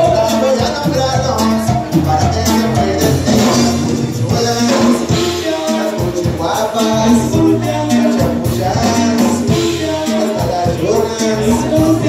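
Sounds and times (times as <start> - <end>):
latin dance music percussion: 0.0 - 12.0
person singing: 0.0 - 12.0.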